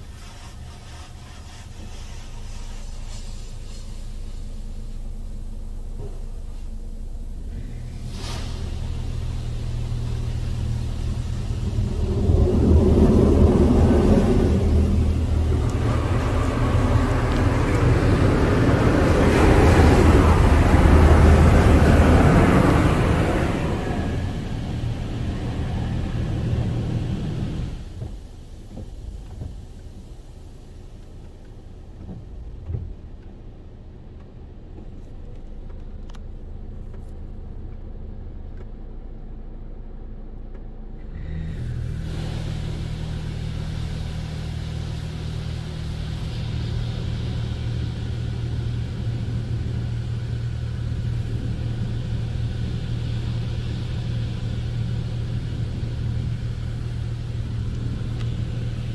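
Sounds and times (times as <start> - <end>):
water spraying onto car: 0.0 - 33.5, 41.5 - 58.9
low hum: 1.3 - 58.9.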